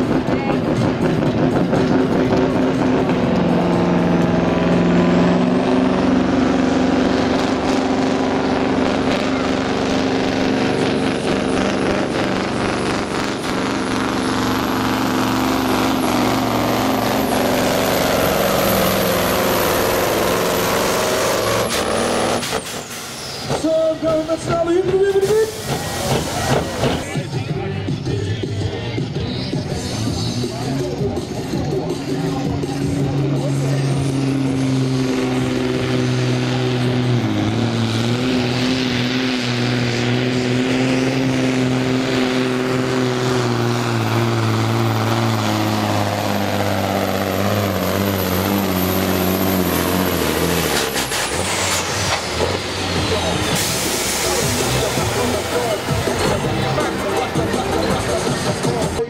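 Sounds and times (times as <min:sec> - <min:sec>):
diesel engine under full load: 0:00.0 - 0:59.0.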